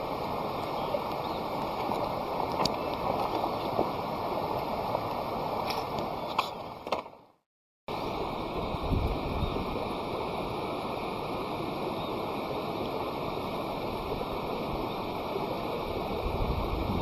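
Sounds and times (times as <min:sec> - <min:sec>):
flowing water rushing: 0:00.0 - 0:06.9, 0:07.9 - 0:17.0.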